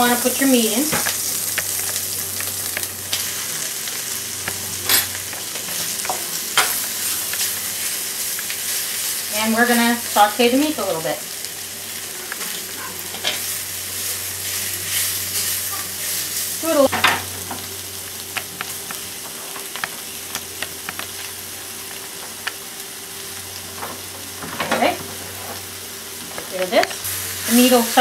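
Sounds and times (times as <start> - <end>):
meat sizzling in a pot: 0.0 - 28.0.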